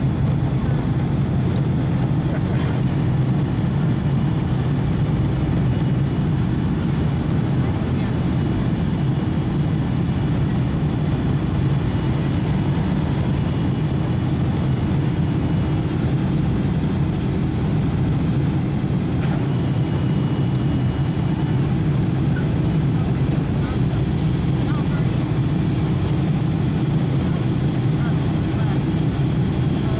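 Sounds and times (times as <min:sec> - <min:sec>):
airplane cabin roar: 0:00.0 - 0:29.9.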